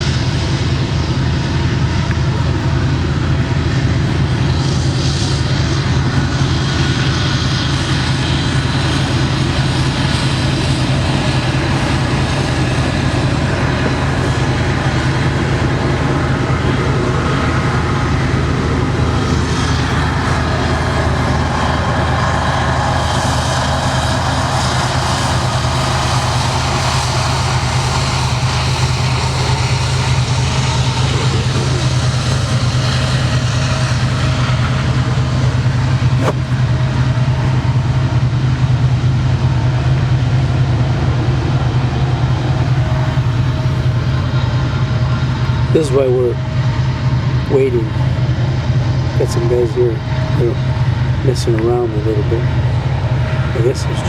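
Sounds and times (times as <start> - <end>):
train rolling past: 0.0 - 54.0.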